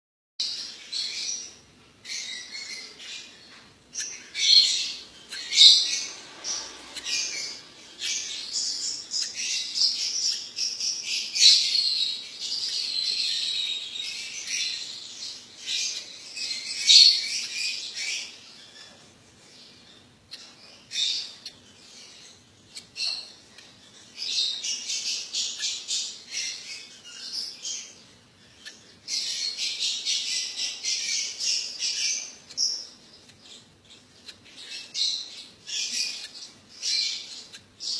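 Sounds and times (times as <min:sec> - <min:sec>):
lovebirds chirping: 0:00.4 - 0:37.9.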